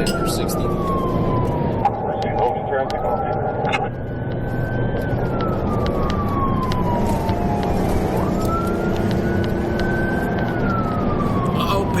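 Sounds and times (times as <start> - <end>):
engine and road noise: 0.0 - 12.0
police siren wailing: 0.0 - 12.0.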